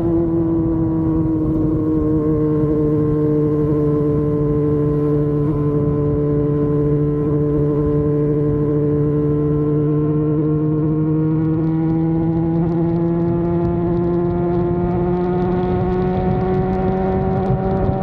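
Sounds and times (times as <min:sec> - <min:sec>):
motorcycle engine running: 0:00.0 - 0:18.0
rushing wind: 0:00.0 - 0:18.0.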